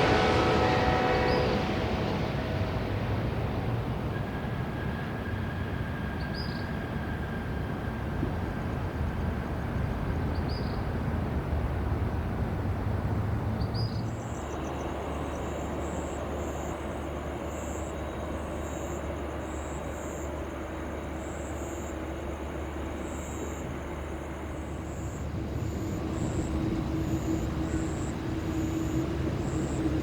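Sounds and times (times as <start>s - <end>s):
jet engine rumble: 0.0s - 30.0s.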